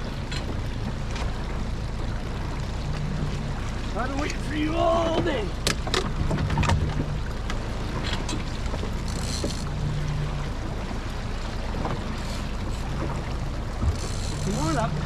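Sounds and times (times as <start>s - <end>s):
outboard motor humming: 0.0s - 15.0s
water noise around boat: 0.0s - 15.0s
wind: 0.0s - 15.0s.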